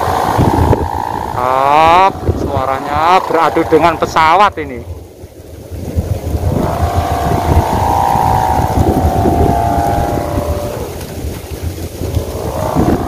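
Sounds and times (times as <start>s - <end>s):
kite hummer buzzing: 0.0s - 13.0s
wind rumble on microphone: 0.0s - 13.0s.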